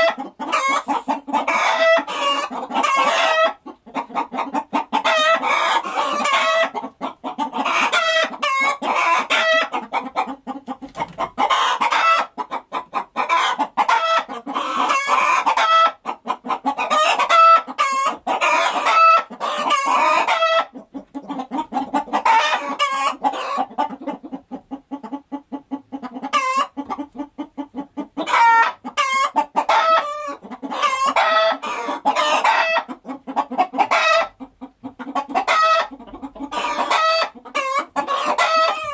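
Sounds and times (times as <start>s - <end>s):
chickens clucking and squawking: 0.0s - 38.9s.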